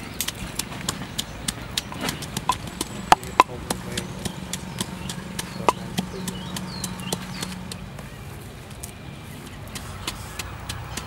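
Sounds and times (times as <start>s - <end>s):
pestle pounding in wooden mortar: 0.0s - 8.2s, 9.5s - 11.0s.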